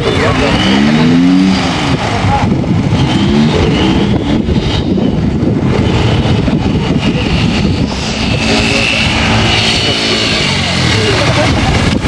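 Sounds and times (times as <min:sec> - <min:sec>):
rough motor vehicle engine running: 0:00.0 - 0:12.0.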